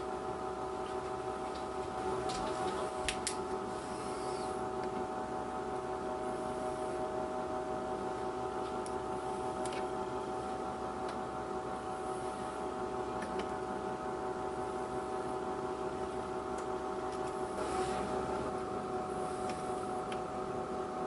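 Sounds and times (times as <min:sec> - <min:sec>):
fan motor humming: 0:00.0 - 0:21.0.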